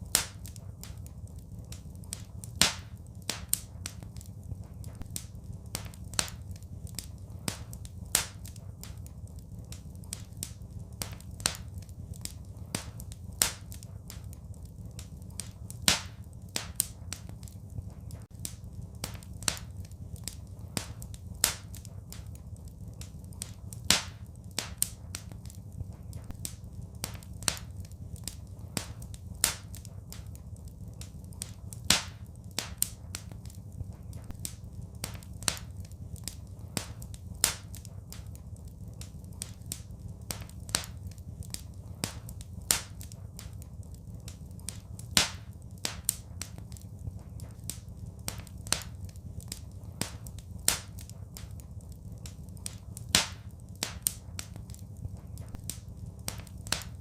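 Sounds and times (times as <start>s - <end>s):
low rumble of burning: 0.0s - 57.0s
wood fire crackling: 0.0s - 57.0s.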